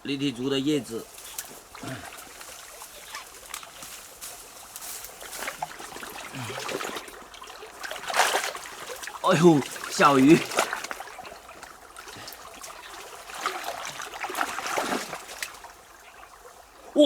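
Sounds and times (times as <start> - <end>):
water trickling and dripping: 0.3 - 17.0
water splashing: 0.7 - 17.0.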